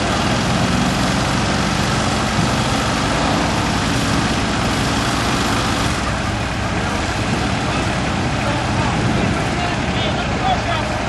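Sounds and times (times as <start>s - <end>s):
heavy truck engine running: 0.0s - 11.0s.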